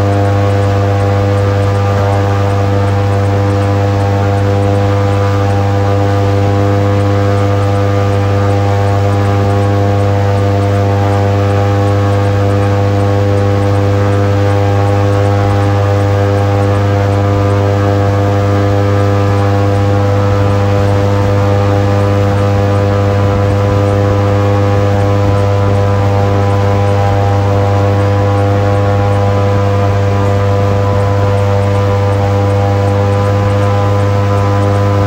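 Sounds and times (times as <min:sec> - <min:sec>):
airboat engine and propeller drone: 0:00.0 - 0:35.0.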